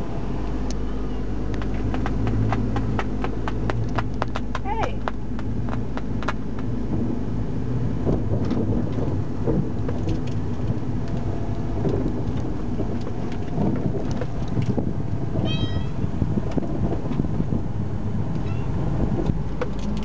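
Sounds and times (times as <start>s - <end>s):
car engine rumble and road noise: 0.0s - 20.0s.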